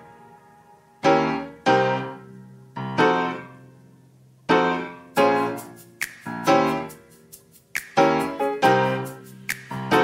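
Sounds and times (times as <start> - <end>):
piano chords ringing: 0.0 - 10.0.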